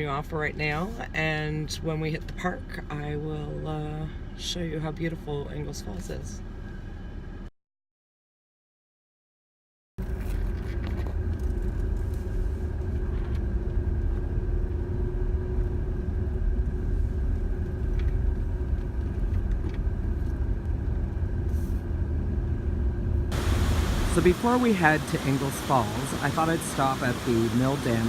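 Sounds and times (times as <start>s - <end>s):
road rumble and engine noise: 0.0s - 7.5s, 10.0s - 28.0s.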